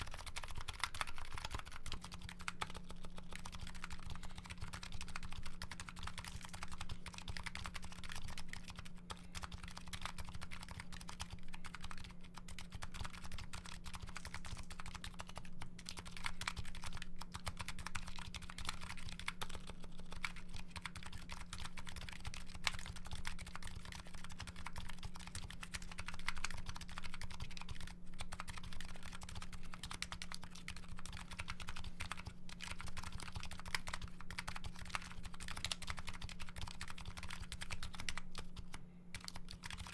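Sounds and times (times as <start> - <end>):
keyboard typing clicks: 0.0 - 23.0, 23.7 - 39.9.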